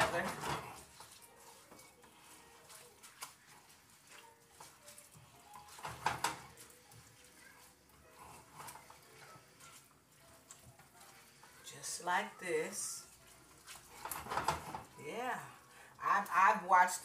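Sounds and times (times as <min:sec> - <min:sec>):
spoon scraping frying pan: 0:00.0 - 0:15.0.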